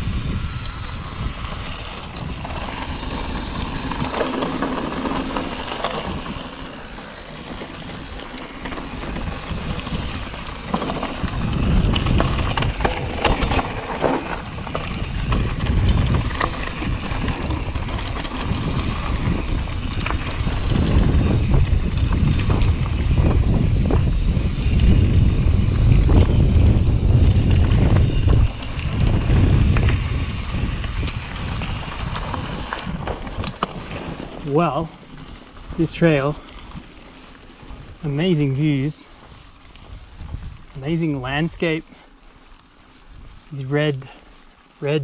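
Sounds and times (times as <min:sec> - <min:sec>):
bike rattling over bumps: 0:00.0 - 0:45.0
wind rumbling on microphone: 0:00.0 - 0:45.0.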